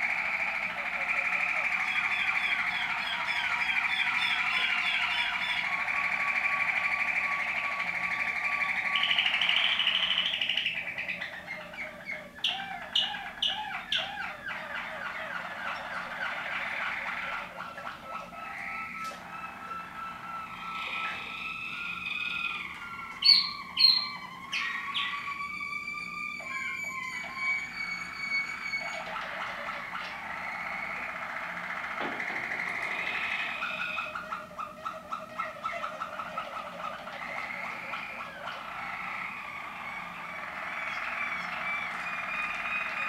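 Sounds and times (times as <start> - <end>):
canary singing: 0.0 - 43.0.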